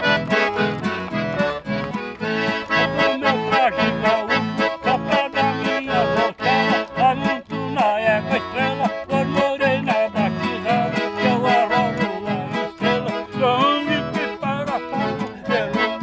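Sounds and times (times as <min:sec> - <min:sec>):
acoustic guitar accompanying: 0:00.0 - 0:16.0
button accordion playing: 0:00.0 - 0:16.0.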